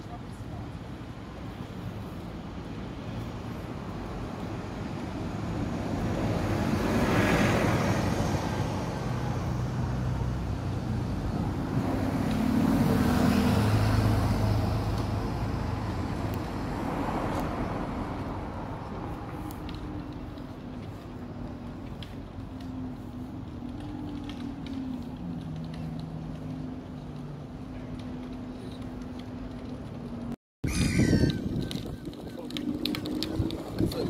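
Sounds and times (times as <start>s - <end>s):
vehicles swishing by: 0.0s - 34.0s
bus driving past: 0.3s - 30.4s.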